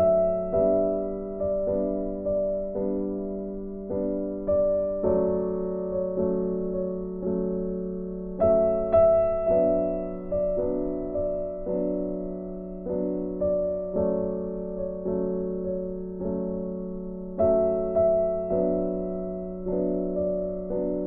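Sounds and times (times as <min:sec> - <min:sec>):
gentle piano tune: 0:00.0 - 0:21.0.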